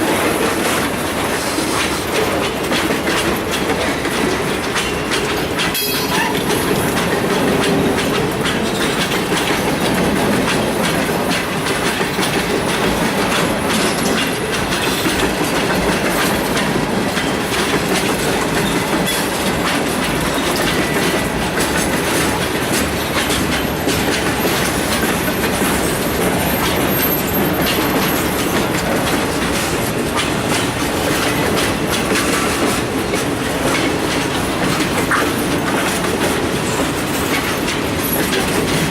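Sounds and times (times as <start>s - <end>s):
freight train rumbling past: 0.0s - 38.9s
wheels clacking over rail joints: 0.0s - 38.9s.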